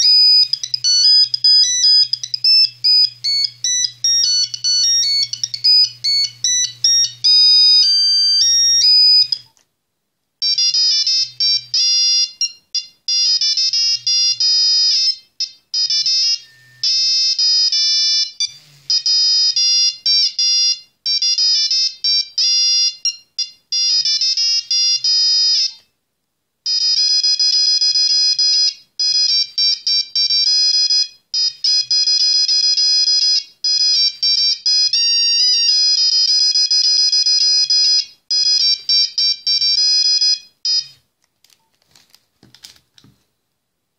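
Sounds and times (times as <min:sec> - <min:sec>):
mobile phone ringtone beeping: 0:00.0 - 0:09.5, 0:10.4 - 0:25.9, 0:26.7 - 0:41.0.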